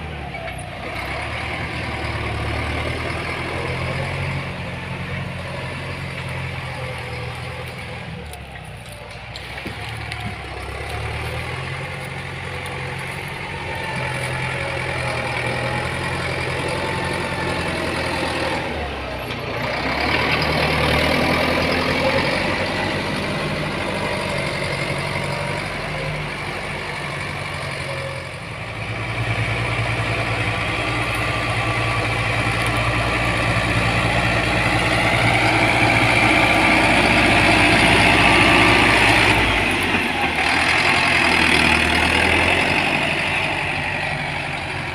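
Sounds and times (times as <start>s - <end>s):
heavy machinery diesel engine: 0.0s - 44.9s.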